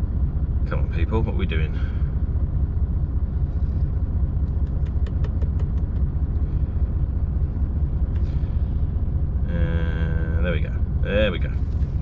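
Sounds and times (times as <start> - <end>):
lorry diesel engine rumble: 0.0 - 12.0.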